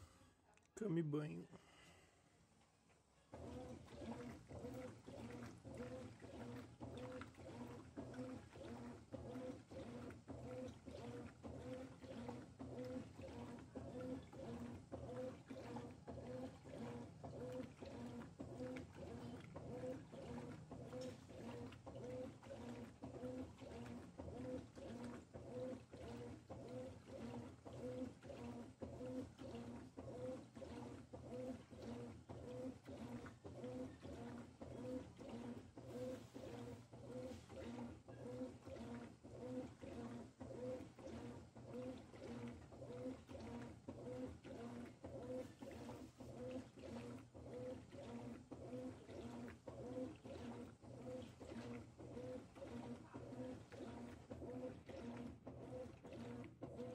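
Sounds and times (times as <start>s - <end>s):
washing machine motor humming: 3.2s - 56.9s
water churning: 3.3s - 56.9s.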